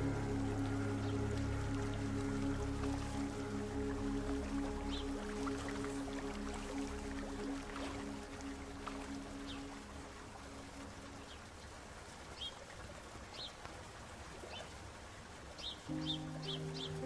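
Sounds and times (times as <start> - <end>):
soft music: 0.0 - 17.0.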